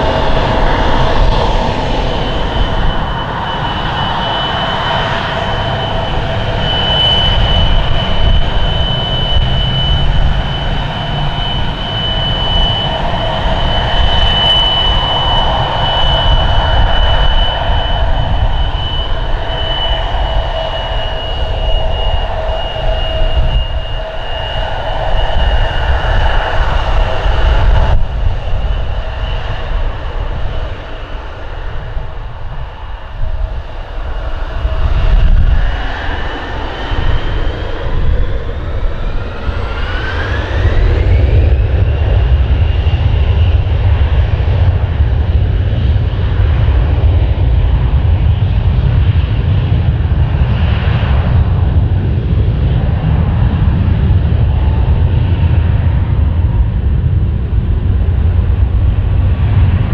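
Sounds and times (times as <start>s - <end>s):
deep roar of takeoff run: 0.0s - 59.9s
jet engines whining: 0.0s - 59.9s.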